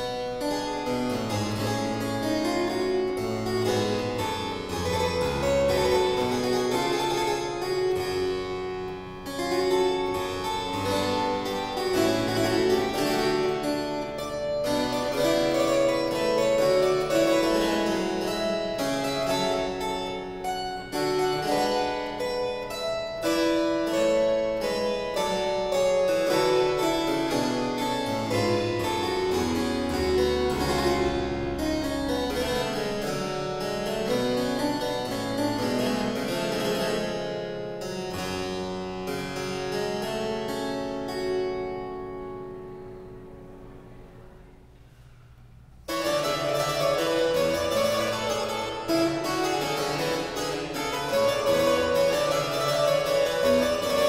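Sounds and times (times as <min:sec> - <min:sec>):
solo harpsichord playing: 0:00.0 - 0:44.7, 0:45.8 - 0:54.0.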